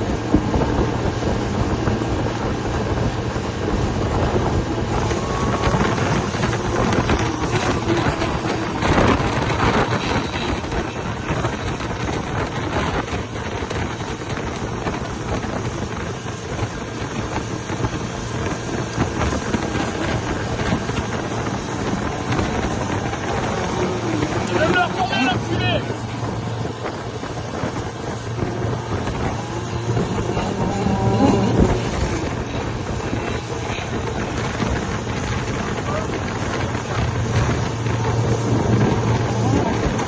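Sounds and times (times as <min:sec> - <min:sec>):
model boat motors: 0:00.0 - 0:40.0
wind noise on microphone: 0:00.0 - 0:40.0.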